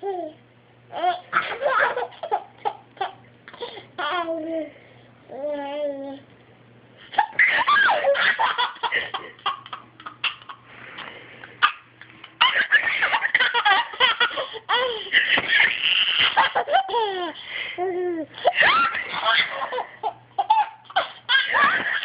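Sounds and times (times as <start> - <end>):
baby laughing: 0.0 - 4.6, 7.1 - 10.7, 11.5 - 22.0.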